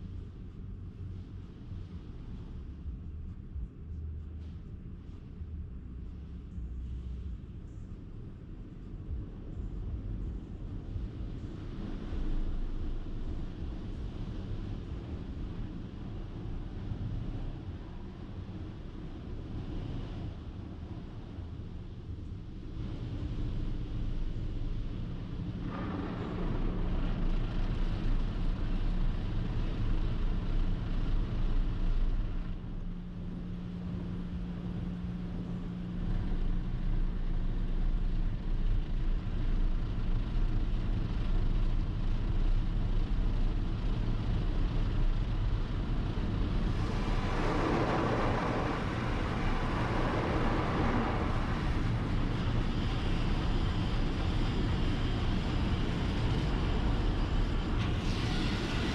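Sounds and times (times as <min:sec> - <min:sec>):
low rumble with humming tone: 0:00.0 - 0:58.9.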